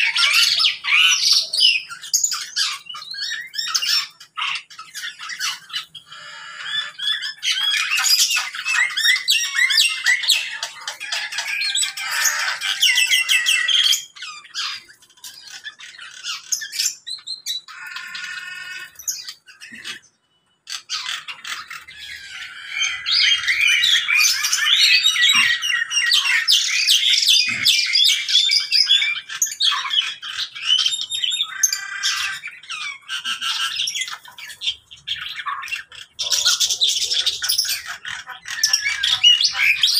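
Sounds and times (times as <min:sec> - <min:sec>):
caged birds squawking and chattering: 0:00.0 - 0:39.9.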